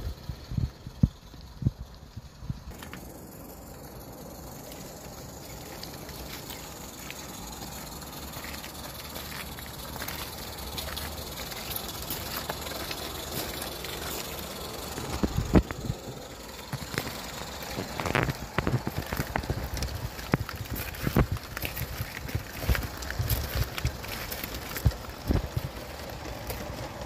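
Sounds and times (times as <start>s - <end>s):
steam hissing: 0.0s - 27.0s
wheels clicking over track: 0.0s - 27.0s.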